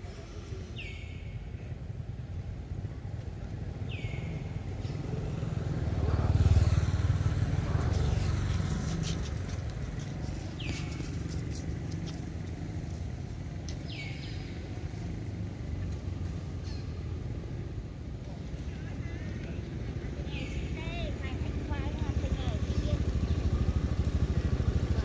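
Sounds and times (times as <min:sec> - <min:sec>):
passing vehicle engine hum: 0:01.8 - 0:25.0.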